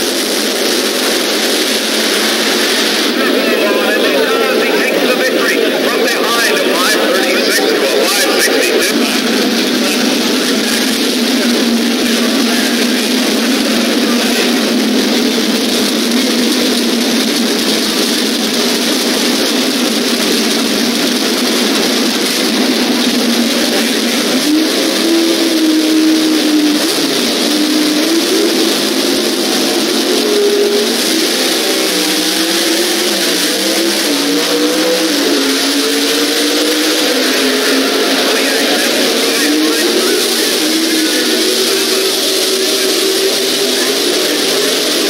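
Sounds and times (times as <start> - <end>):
drag racing car engines revving: 0.0 - 45.0.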